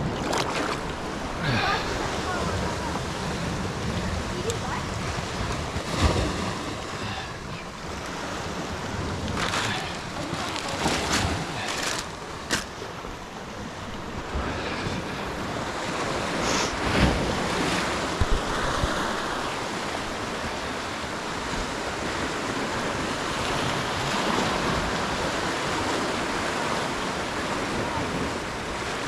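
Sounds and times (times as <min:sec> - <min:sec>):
ocean surf washing ashore: 0:00.0 - 0:29.0
wind buffeting microphone: 0:00.0 - 0:29.0.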